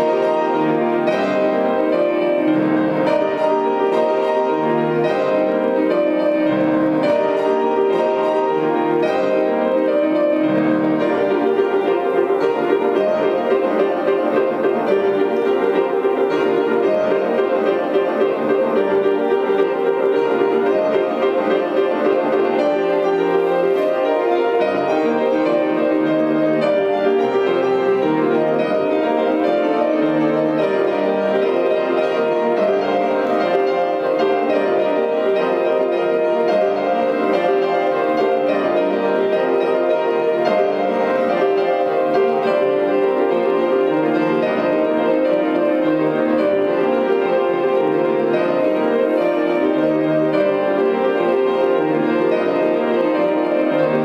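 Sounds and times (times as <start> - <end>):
grand piano playing: 0.0 - 54.0.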